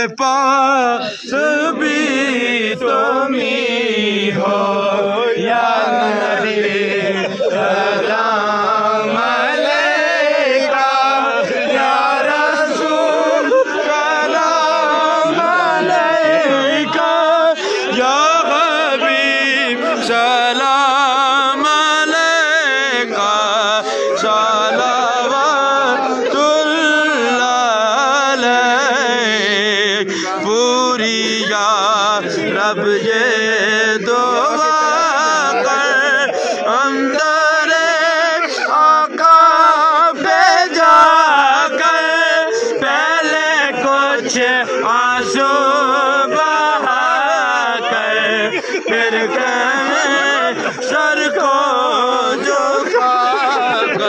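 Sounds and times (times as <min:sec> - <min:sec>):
person chanting devotional song: 0:00.0 - 0:54.0.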